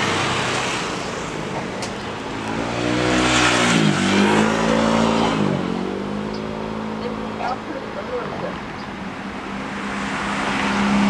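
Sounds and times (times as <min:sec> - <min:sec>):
pitched engine hum: 0:00.0 - 0:11.0.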